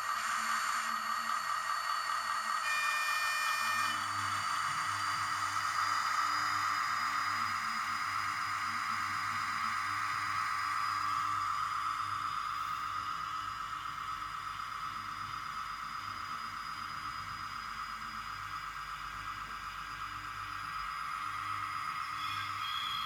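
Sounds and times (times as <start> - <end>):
model locomotive motor whine: 0.0 - 23.0.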